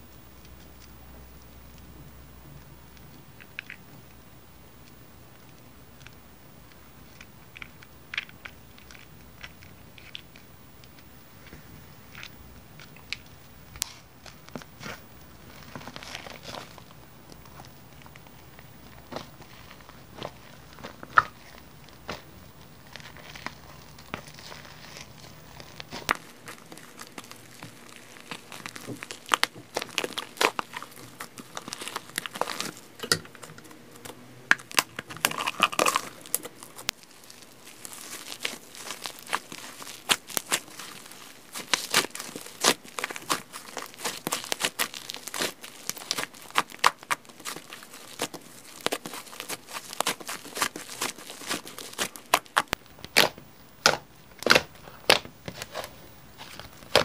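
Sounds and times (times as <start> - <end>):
slime squished by hand: 7.1 - 33.5, 34.5 - 57.0.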